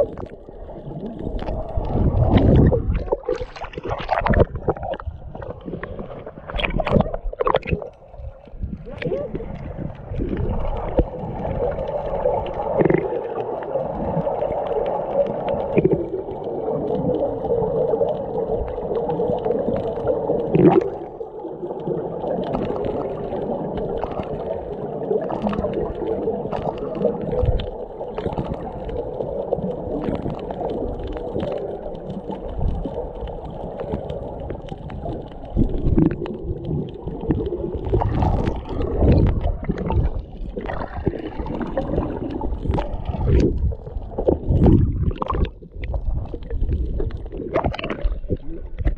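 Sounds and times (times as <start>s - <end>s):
underwater rush and gurgle: 0.0s - 48.9s.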